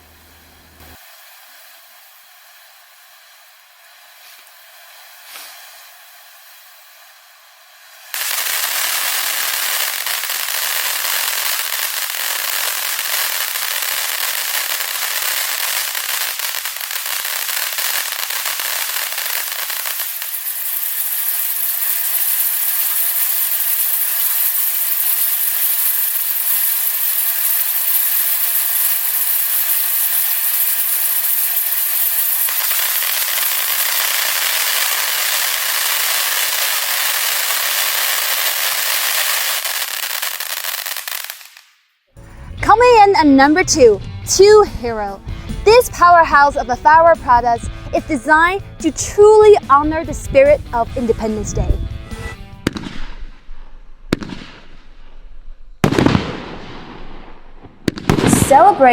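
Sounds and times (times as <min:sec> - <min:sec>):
firework crackling and popping: 0:00.1 - 0:58.9.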